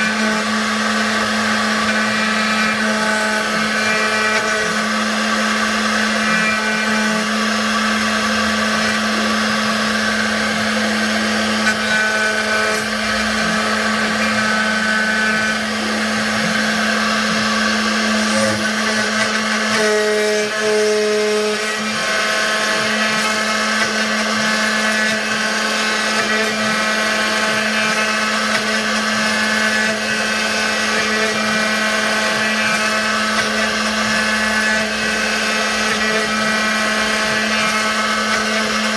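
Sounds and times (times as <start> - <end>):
router spindle cutting wood: 0.0 - 38.9.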